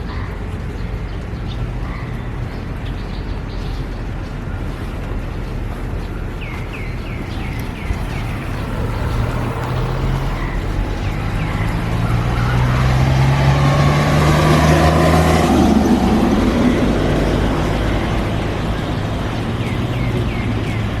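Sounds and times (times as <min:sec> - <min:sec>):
engine running: 0:02.4 - 0:21.0.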